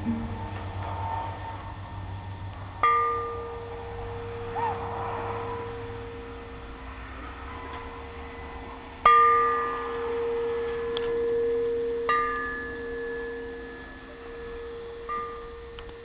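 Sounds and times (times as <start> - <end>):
steady held tone: 0.0 - 16.0
bell-like chime: 2.8 - 16.0.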